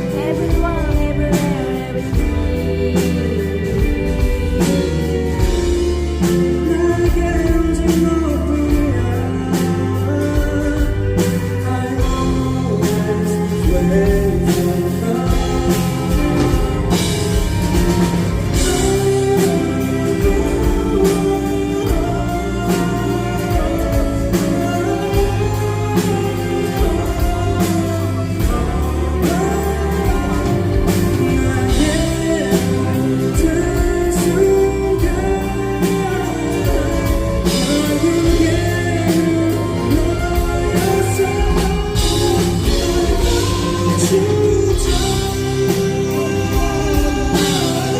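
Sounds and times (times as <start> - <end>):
live band playing pop song: 0.0 - 47.9
man singing: 0.0 - 47.9.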